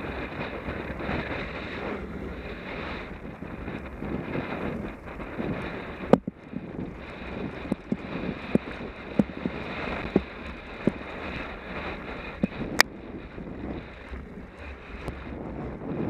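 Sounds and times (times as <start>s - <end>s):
bike knocking and rattling: 0.0s - 16.0s
wind rushing over camera: 0.0s - 16.0s.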